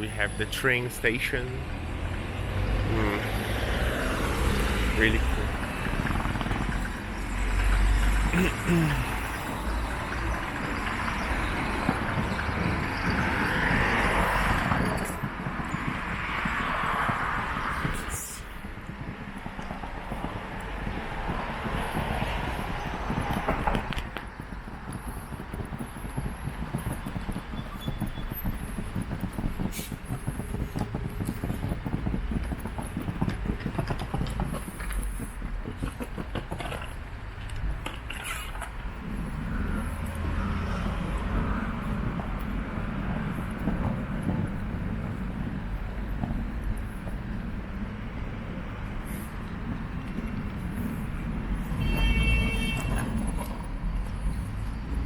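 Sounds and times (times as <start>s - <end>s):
footsteps on pavement: 0.0s - 55.0s
road vehicles passing: 0.0s - 55.0s.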